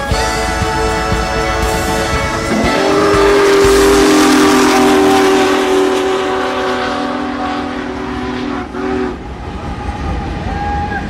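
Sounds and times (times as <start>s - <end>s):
train cars rumbling on rails: 0.0s - 11.0s
train whistle: 0.0s - 11.0s.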